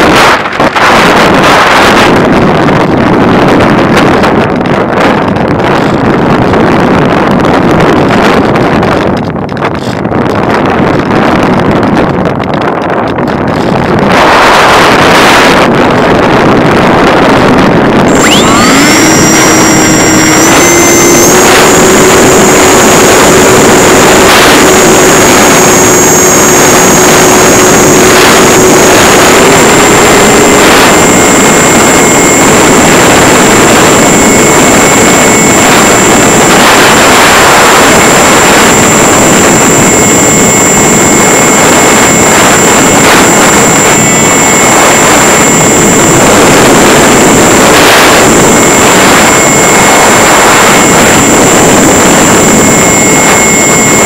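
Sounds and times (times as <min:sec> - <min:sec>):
model plane motor whine: 0:00.0 - 0:54.0
wind rush: 0:00.0 - 0:54.0.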